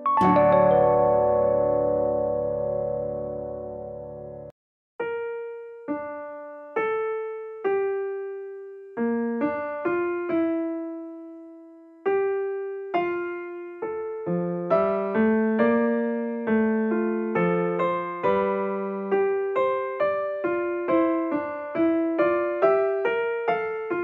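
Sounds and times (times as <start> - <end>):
slow solo piano melody: 0.0 - 24.0.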